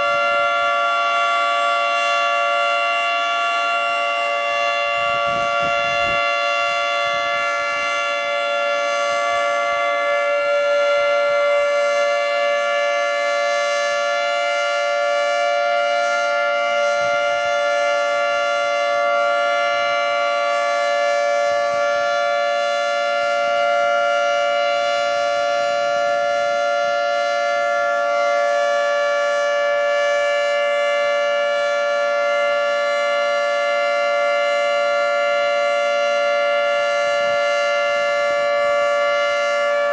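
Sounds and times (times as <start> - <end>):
warning siren two-note chord: 0.0 - 39.9.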